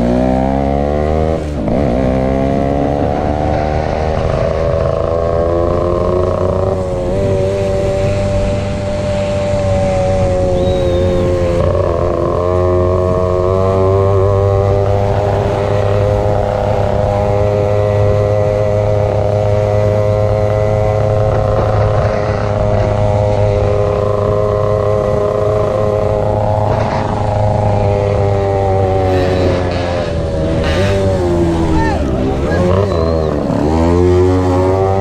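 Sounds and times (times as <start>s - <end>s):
motorcycle engines buzzing: 0.0s - 35.0s
rush of noise: 0.0s - 35.0s.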